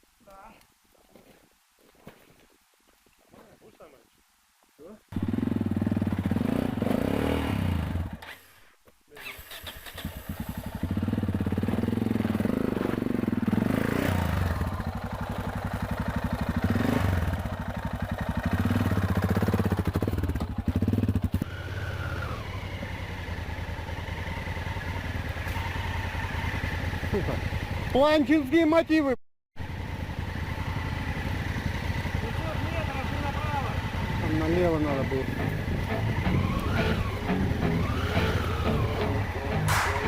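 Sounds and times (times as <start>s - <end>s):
motorcycle engine revving: 5.2s - 8.5s, 9.2s - 28.0s, 29.6s - 40.0s.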